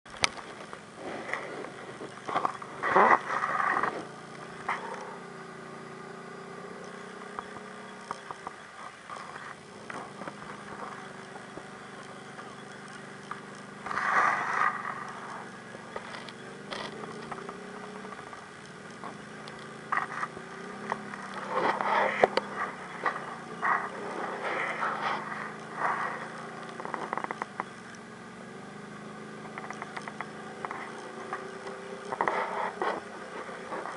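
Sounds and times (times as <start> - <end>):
atv engine running: 0.1 - 33.9.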